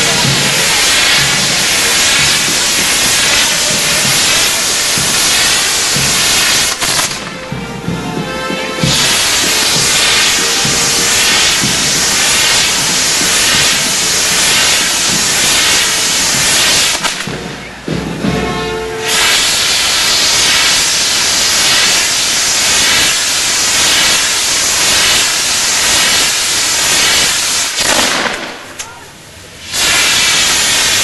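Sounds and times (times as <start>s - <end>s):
fireworks rushing hiss: 0.0s - 31.0s.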